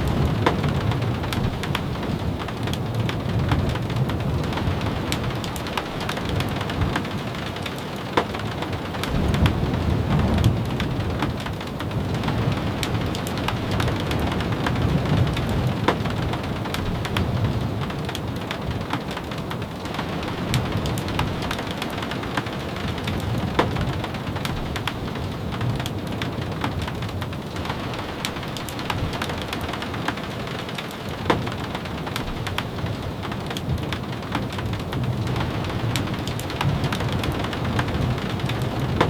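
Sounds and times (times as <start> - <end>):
low rumble of thunder: 0.0 - 39.0
steady rain with sharp ticks: 0.0 - 39.0.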